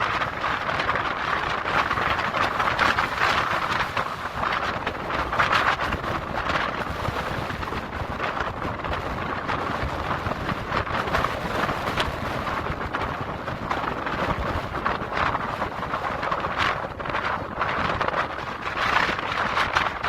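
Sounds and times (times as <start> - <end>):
gusty wind buffeting microphone: 0.0 - 20.0
surf breaking on beach: 0.0 - 20.0.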